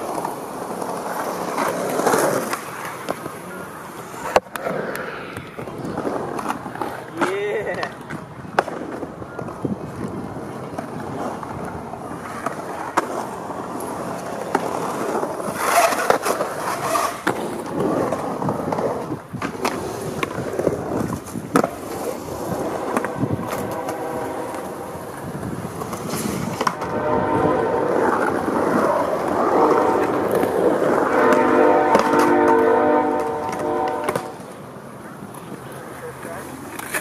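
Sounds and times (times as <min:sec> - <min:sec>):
skateboard scraping on metal rail: 0:00.0 - 0:08.0, 0:08.6 - 0:35.5, 0:36.1 - 0:37.0
skateboard tail clacks: 0:00.0 - 0:37.0
skateboard wheels rolling on concrete: 0:00.0 - 0:37.0.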